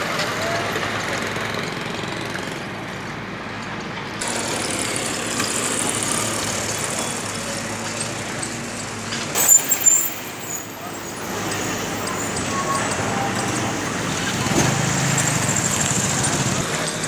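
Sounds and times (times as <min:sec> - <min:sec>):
engine and road traffic noise: 0:00.0 - 0:17.0.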